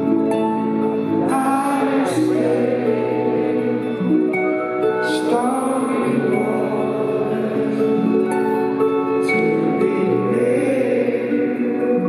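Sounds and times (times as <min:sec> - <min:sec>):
live rock band music: 0:00.0 - 0:12.0.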